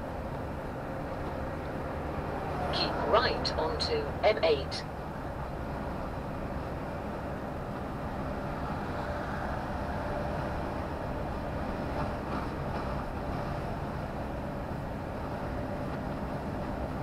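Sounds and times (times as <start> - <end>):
lorry engine drone: 0.0 - 17.0
tyre and road noise: 0.0 - 17.0.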